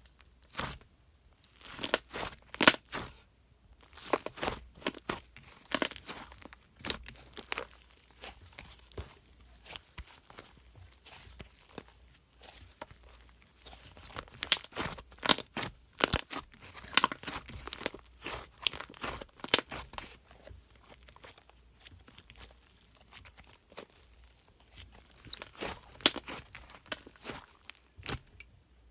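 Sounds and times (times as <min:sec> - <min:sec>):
slime squished by hand: 0:03.8 - 0:28.3.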